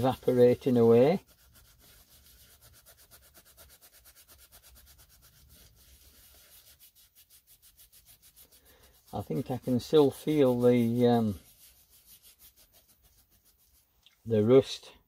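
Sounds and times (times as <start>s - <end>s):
abrasive pad scrubbing metal: 0.0s - 13.9s.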